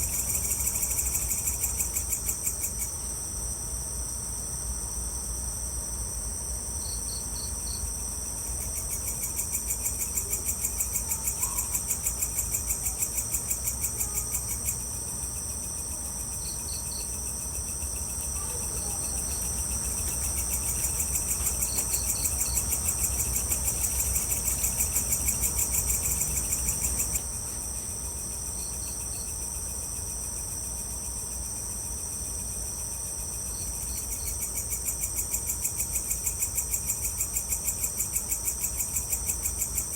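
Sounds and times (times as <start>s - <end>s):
fast pulsing insect trill: 0.0s - 4.4s, 5.2s - 39.9s
insects humming: 0.0s - 39.9s.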